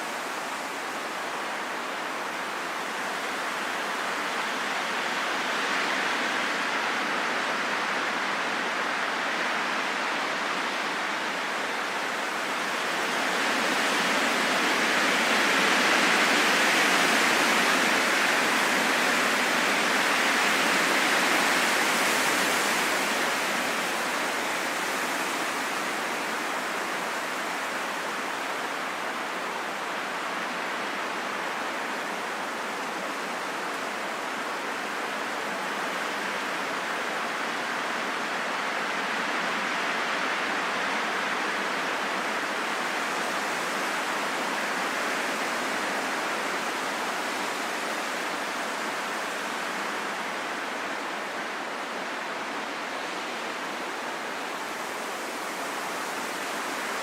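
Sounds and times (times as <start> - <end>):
heavy rain in a forest: 0.0 - 57.0.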